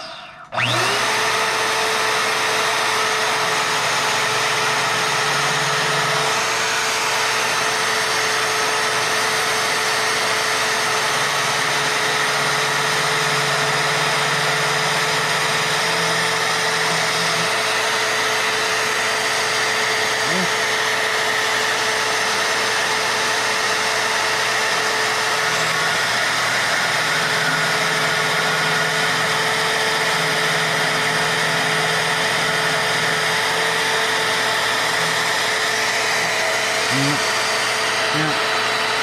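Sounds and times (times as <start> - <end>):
drill press motor whining: 0.0 - 39.0.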